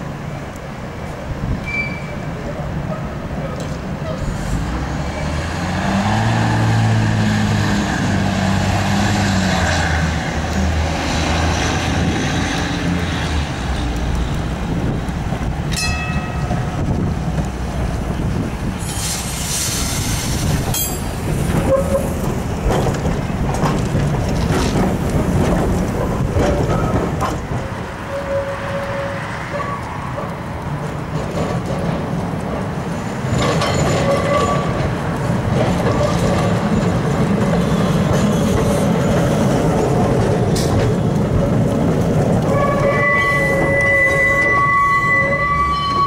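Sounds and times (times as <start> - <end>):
electric tram humming: 0.0 - 46.0
steel wheels rumbling on rails: 0.0 - 46.0
sharp clicks of tram: 0.4 - 46.0.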